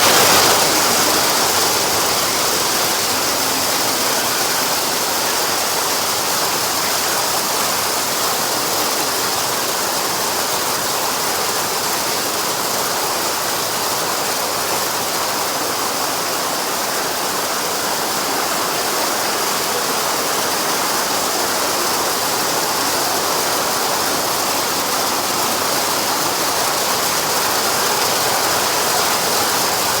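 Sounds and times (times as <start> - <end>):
heavy rain and hail: 0.0 - 30.0.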